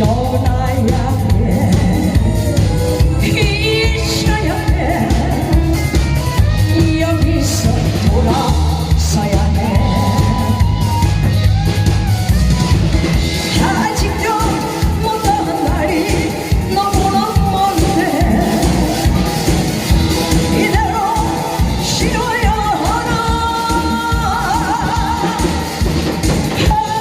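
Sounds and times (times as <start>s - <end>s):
person singing: 0.0s - 11.3s, 13.4s - 27.0s.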